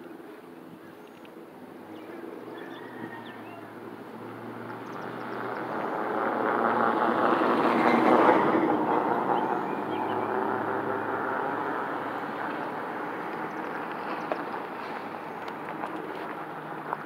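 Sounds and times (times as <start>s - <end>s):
passing vehicle rumble: 1.8s - 17.0s.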